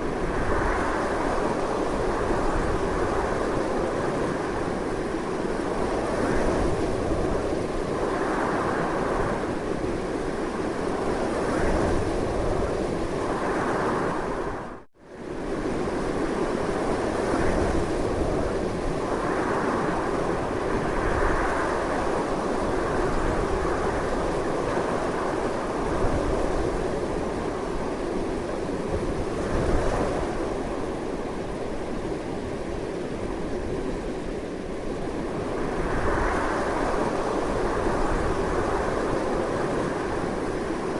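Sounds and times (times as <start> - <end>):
strong wind blowing: 0.0 - 40.9.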